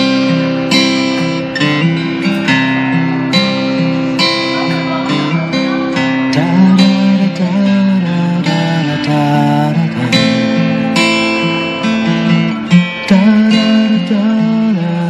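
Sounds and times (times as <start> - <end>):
acoustic guitar strumming: 0.0 - 15.0
guitar sliding notes: 0.0 - 15.0.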